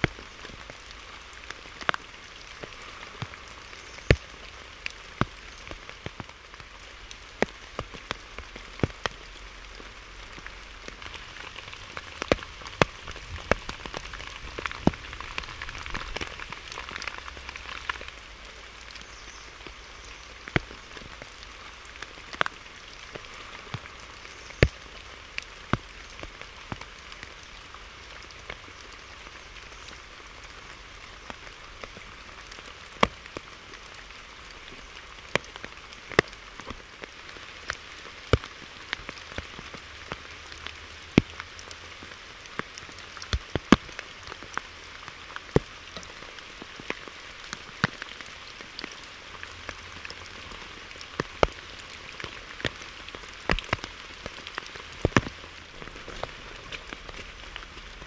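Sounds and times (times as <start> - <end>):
large raindrops tapping: 0.0 - 58.0
steady rain: 0.0 - 58.0.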